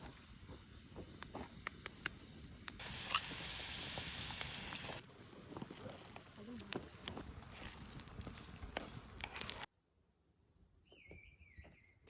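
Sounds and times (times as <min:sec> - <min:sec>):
steady hiss: 0:00.0 - 0:09.7
wood fire crackling and popping: 0:00.0 - 0:09.7.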